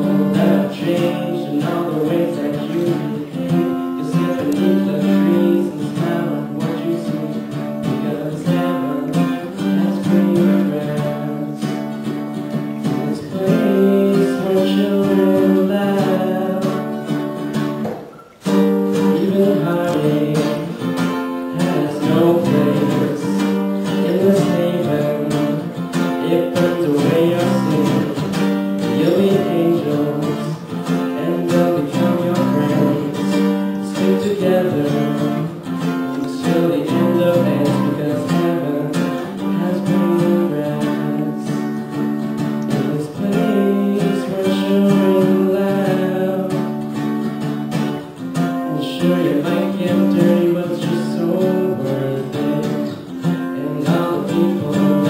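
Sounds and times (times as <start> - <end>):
acoustic guitar: 0.0 - 55.0
person singing: 0.0 - 55.0.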